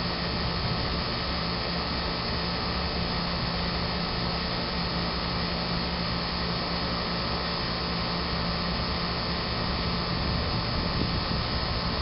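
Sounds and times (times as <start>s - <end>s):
condenser fan air rush: 0.0s - 12.0s.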